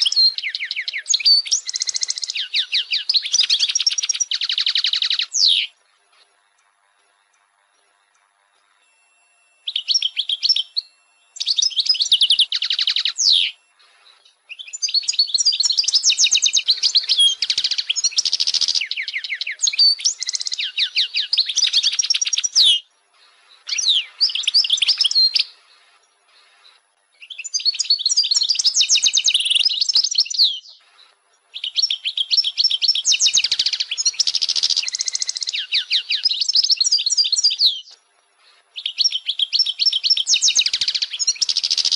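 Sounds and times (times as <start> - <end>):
goldfinch twittering song: 0.0 - 41.9.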